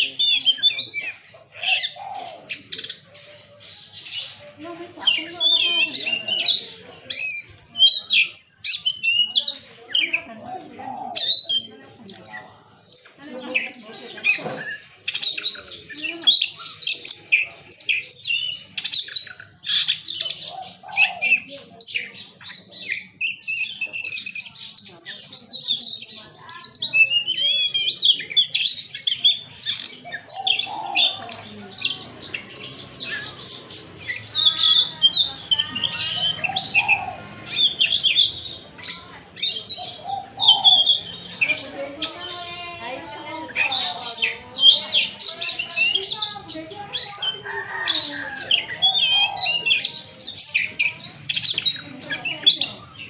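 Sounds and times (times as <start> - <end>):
songbird chirping and whistling: 0.0 - 10.3, 10.9 - 53.0.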